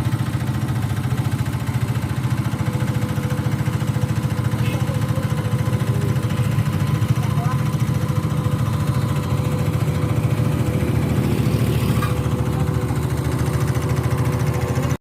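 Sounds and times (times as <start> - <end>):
compactor engine rumbling: 0.0 - 15.0.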